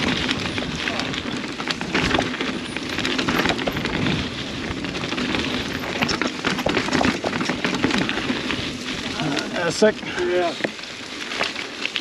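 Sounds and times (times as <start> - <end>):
bike rattles and knocks: 0.0 - 12.0
bike tyres rolling over dirt: 0.0 - 12.0.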